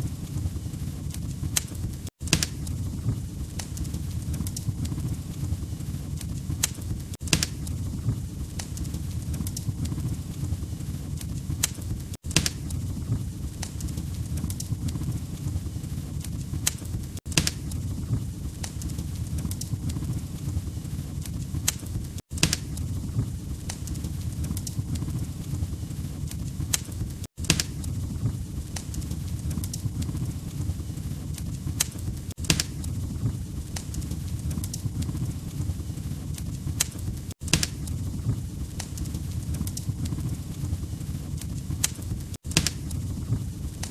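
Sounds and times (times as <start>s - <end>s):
low fire rumble: 0.0s - 43.9s
wood fire crackling: 0.0s - 43.9s.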